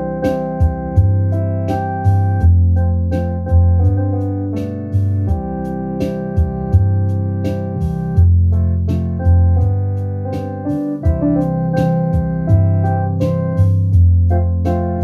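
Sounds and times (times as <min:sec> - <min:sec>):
electronic organ chords: 0:00.0 - 0:15.0
held organ bass notes: 0:00.0 - 0:15.0.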